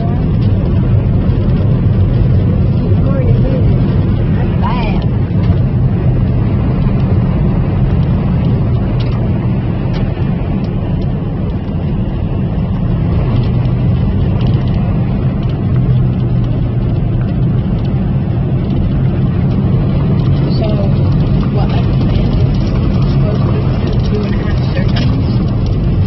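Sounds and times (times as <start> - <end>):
motor vehicle running: 0.0 - 26.0.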